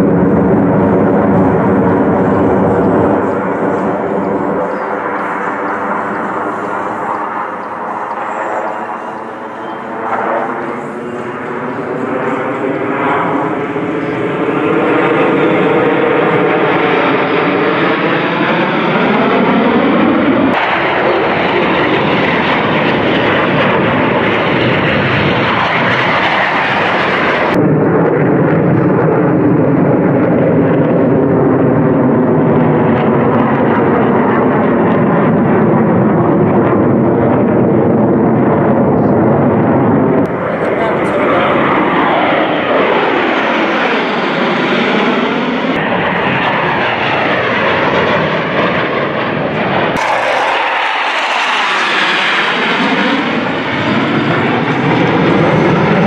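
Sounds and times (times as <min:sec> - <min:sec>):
jet engines roaring overhead: 0:00.0 - 0:56.0.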